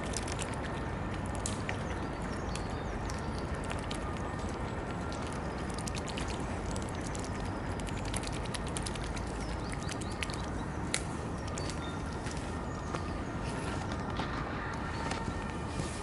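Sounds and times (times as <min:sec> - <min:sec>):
bills clicking at water: 0:00.0 - 0:13.0.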